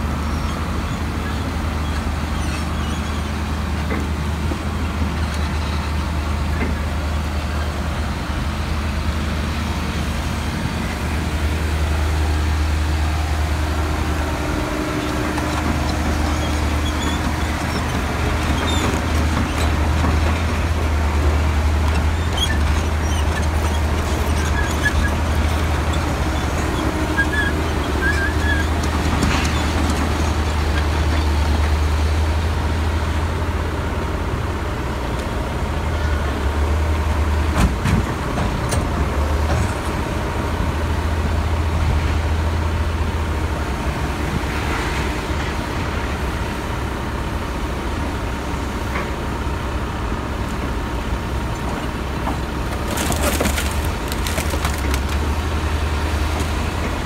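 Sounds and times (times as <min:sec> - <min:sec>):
diesel engine running: 0:00.0 - 0:44.8, 0:45.4 - 0:57.0.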